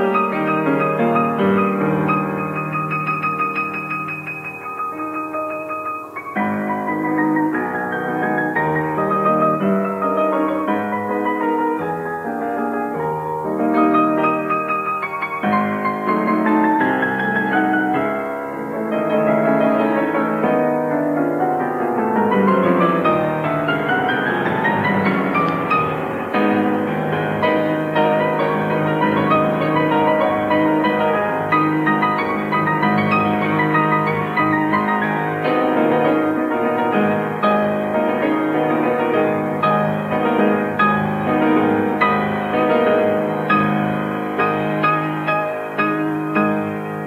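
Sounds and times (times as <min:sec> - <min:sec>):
solo piano playing quick runs: 0:00.0 - 0:47.0.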